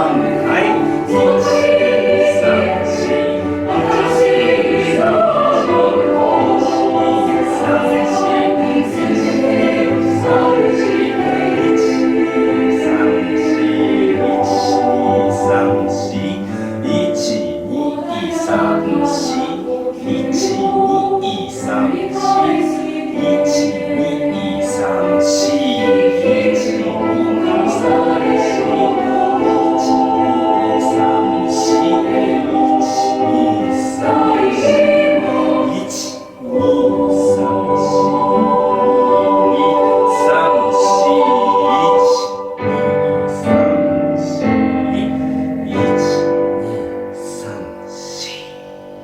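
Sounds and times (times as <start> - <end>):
choir singing in harmony: 0.0 - 49.0.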